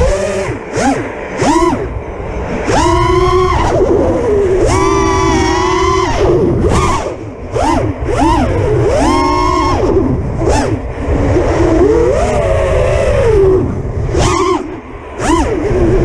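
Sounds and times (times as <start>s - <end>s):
drone motors whining: 0.0s - 16.0s
wind on microphone: 0.0s - 16.0s.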